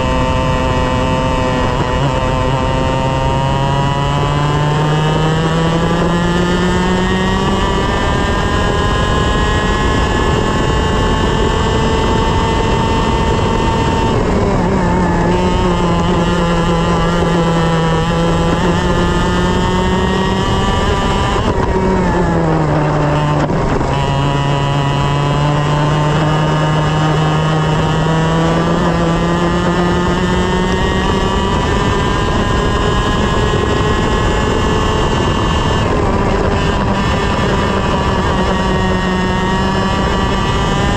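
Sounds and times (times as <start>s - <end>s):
kart engine at high revs: 0.0s - 40.9s.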